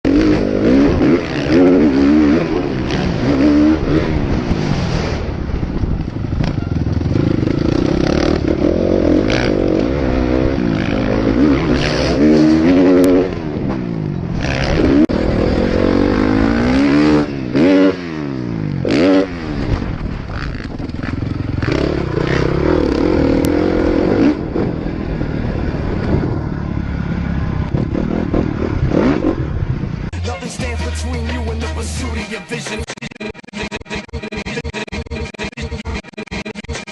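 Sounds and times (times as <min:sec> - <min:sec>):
motocross bike engines revving: 0:00.1 - 0:30.1.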